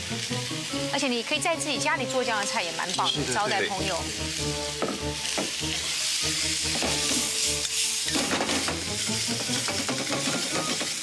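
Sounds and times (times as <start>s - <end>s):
background music: 0.0s - 11.0s
food sizzling in a pan: 0.0s - 11.0s.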